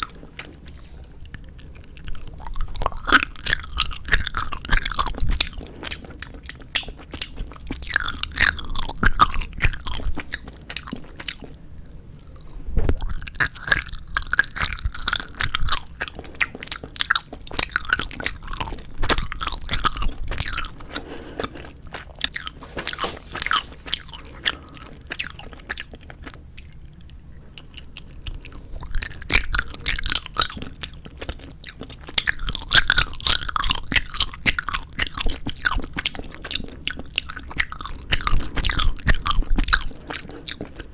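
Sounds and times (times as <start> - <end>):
chewing gummy candies: 0.0 - 40.9.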